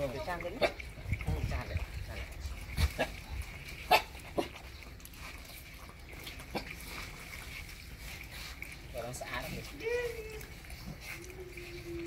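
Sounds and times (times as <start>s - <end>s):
puppies eating: 0.0s - 12.0s.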